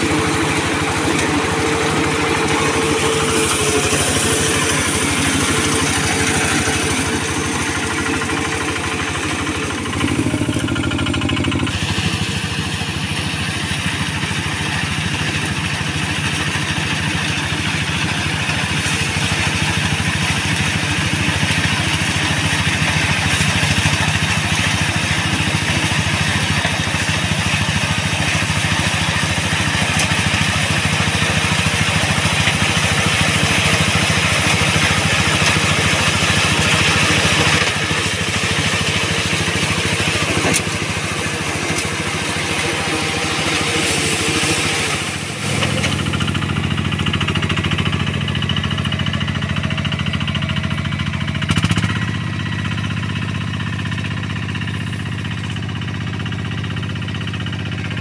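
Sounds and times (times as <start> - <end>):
combine harvester machinery drone: 0.0 - 58.0.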